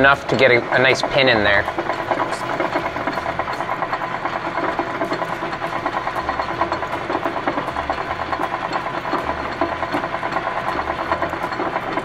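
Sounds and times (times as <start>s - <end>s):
lathe drilling with fast pulsing: 0.0s - 12.0s.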